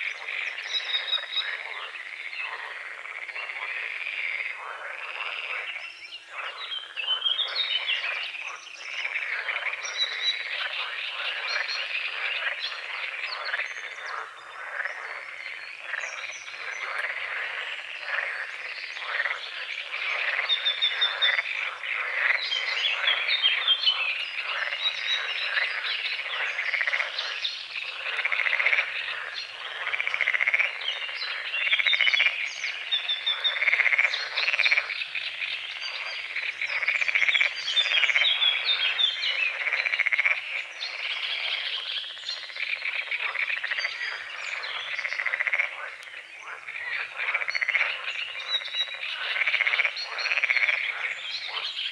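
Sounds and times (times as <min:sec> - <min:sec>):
birds chirping: 0:00.0 - 0:51.9
frogs croaking: 0:00.0 - 0:51.9.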